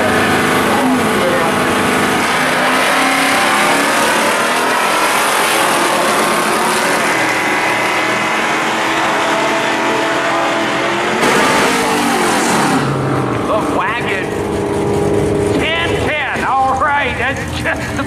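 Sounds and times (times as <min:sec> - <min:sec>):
drag racing cars accelerating: 0:00.0 - 0:18.0.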